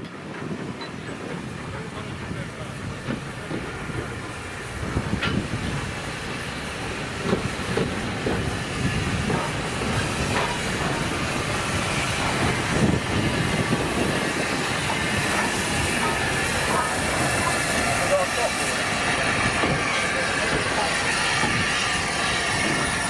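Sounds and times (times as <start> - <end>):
wheels clanking and clicking on rails: 0.0 - 23.0
steam locomotive hissing: 0.2 - 23.0.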